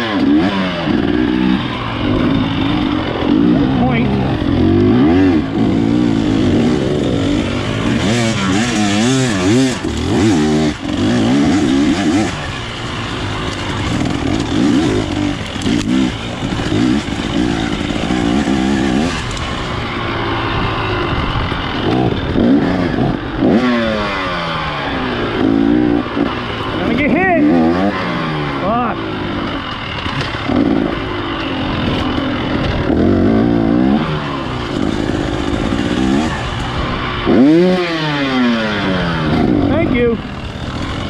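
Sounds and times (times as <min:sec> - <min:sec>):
off-road motorcycle engine revving: 0:00.0 - 0:41.0.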